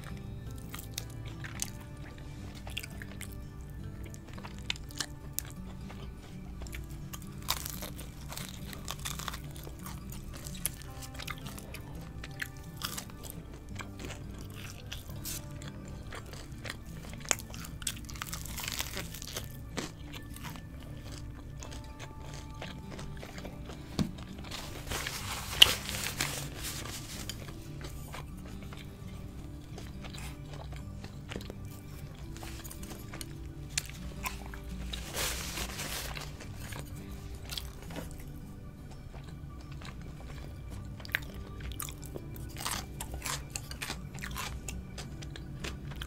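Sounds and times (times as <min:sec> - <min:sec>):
crunchy chewing and biting: 0:00.0 - 0:46.0
soft background music: 0:00.0 - 0:46.0.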